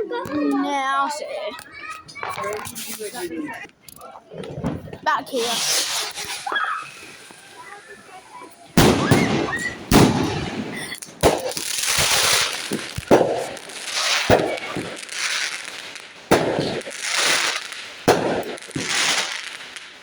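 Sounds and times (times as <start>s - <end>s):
fireworks bangs: 0.2s - 20.0s
crackling hiss of fireworks: 2.1s - 20.0s.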